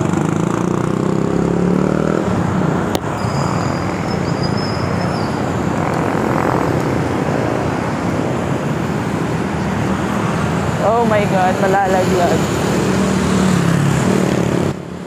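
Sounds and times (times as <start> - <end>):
motorcycles and cars passing: 0.0 - 15.0.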